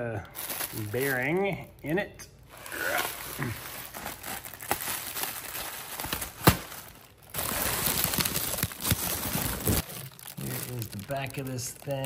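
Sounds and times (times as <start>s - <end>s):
plastic wrapping crinkling: 0.2s - 12.0s.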